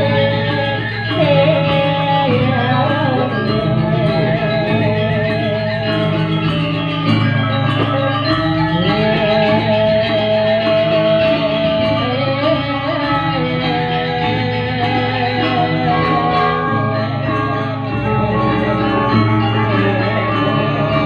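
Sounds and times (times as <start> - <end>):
music with wavering melody: 0.0 - 21.0.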